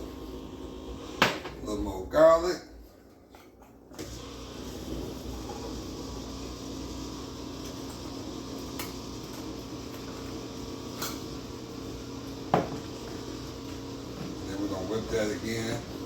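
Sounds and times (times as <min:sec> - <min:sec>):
kitchen appliance humming: 0:00.0 - 0:02.5, 0:03.9 - 0:16.0.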